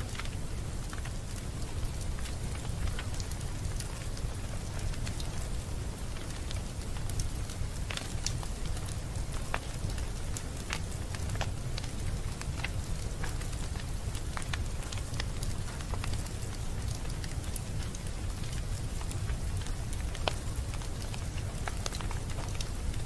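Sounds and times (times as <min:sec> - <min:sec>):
fire crackling and popping: 0:00.0 - 0:23.0
low fire rumble: 0:00.0 - 0:23.0.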